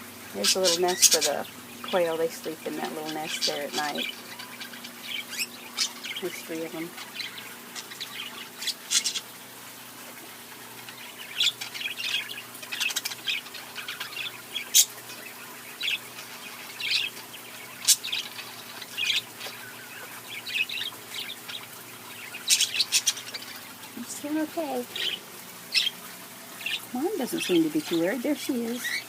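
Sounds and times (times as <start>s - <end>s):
parakeets chirping: 0.0s - 9.4s, 10.4s - 29.0s.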